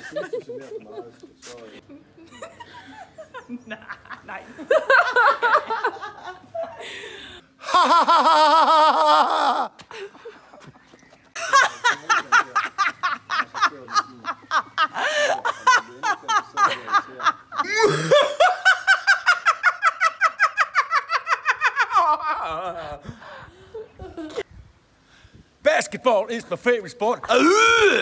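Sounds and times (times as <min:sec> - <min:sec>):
people laughing loudly: 0:00.0 - 0:10.7, 0:11.4 - 0:24.4.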